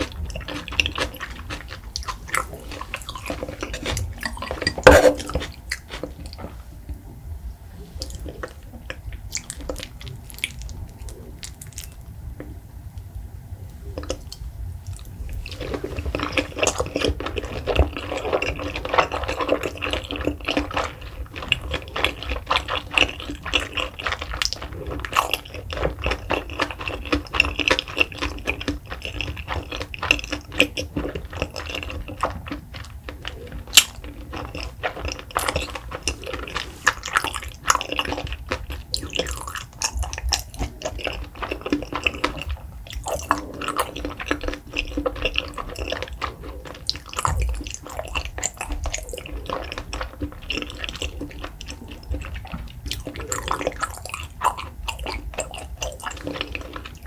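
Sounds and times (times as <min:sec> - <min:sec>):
person chewing: 0:00.0 - 0:07.0, 0:07.8 - 0:12.6, 0:13.7 - 0:57.0.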